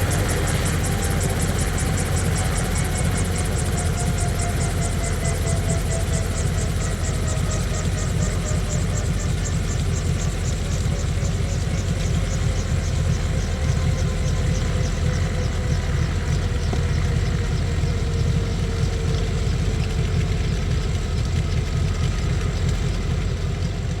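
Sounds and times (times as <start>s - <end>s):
helicopter rotor and engine: 0.0s - 24.0s.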